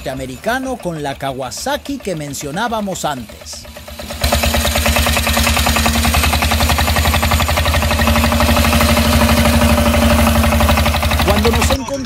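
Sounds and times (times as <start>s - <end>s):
motorcycle diesel engine idling: 0.0s - 12.0s.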